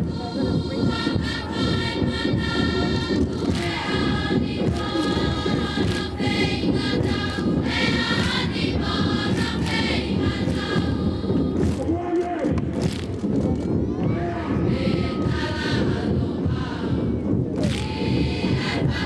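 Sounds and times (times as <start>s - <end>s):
large chorus of girls singing: 0.0s - 11.9s, 14.0s - 19.0s
percussive beats: 0.0s - 19.0s.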